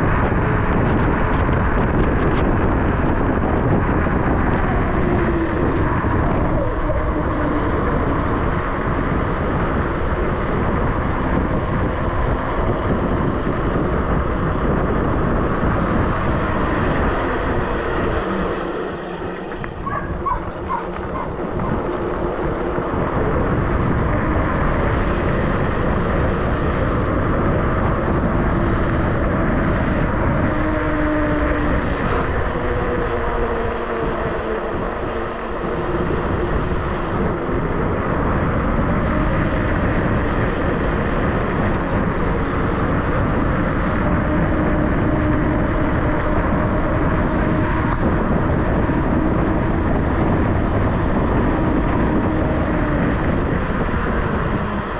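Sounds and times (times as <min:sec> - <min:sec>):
motor whine: 0:00.0 - 0:54.9
wind on microphone: 0:00.0 - 0:54.9.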